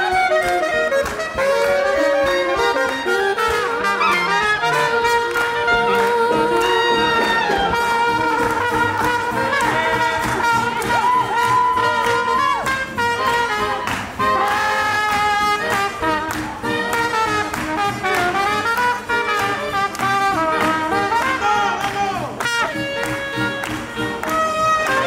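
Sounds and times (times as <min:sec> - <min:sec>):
jazz band playing swing: 0:00.0 - 0:25.0
trumpet leading: 0:00.0 - 0:25.0.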